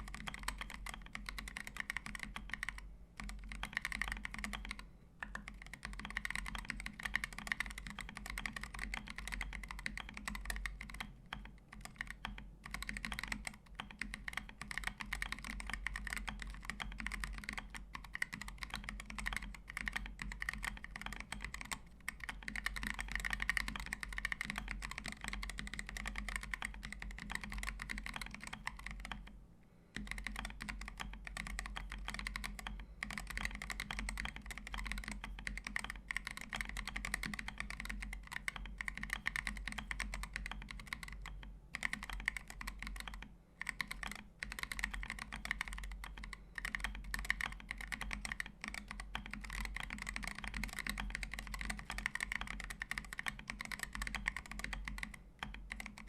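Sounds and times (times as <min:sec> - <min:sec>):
fast typing on mechanical keyboard: 0:00.0 - 0:56.0.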